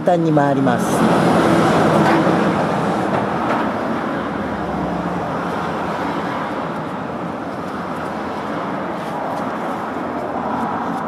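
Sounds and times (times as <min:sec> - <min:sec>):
steady rushing noise: 0:00.7 - 0:11.0.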